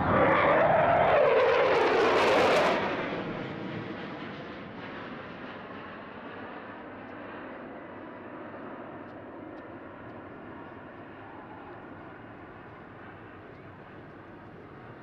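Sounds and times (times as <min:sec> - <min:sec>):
distant jet rumble: 0:00.0 - 0:15.0.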